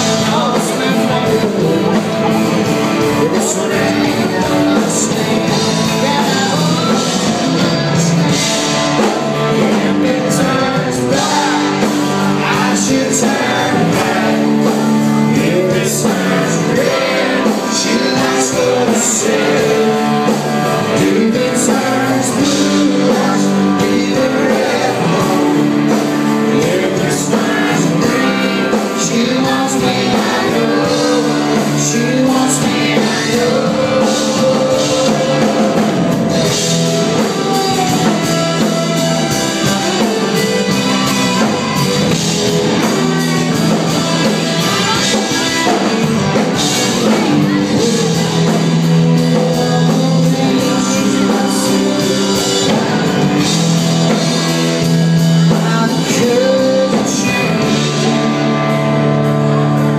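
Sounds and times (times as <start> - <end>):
acoustic and electric guitars: 0.0 - 59.9
bass guitar: 0.0 - 59.9
man singing lead: 0.0 - 59.9.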